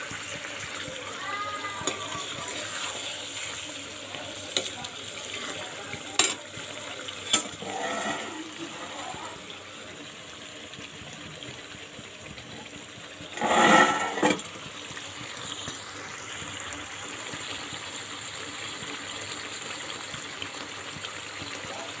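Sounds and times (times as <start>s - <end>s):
cooking hiss: 0.0s - 22.0s.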